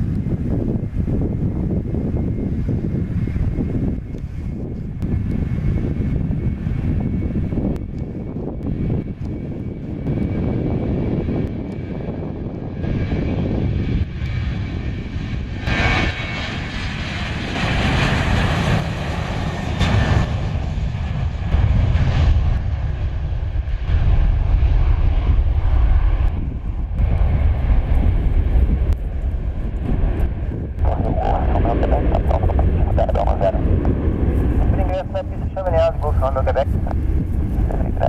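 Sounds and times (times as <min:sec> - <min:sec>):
jet engine roar and hiss: 0:00.0 - 0:38.0
jet engines rumbling: 0:00.0 - 0:38.0.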